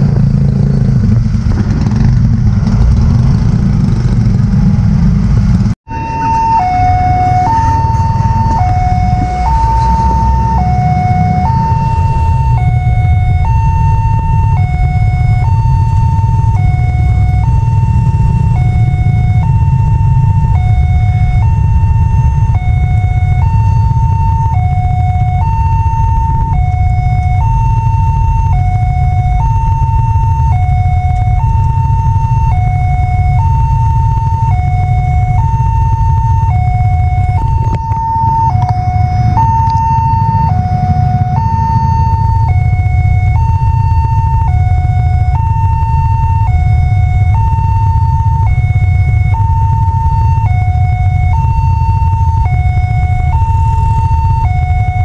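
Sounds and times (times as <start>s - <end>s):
low rumble: 0.0s - 55.0s
two-tone level crossing alarm: 5.9s - 55.0s.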